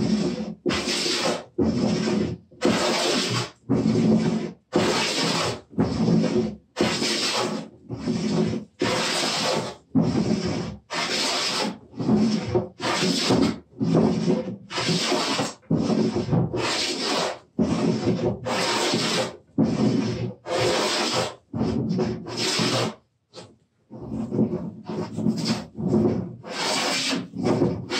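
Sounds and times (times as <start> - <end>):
hand plane rasping on wood: 0.0 - 27.9.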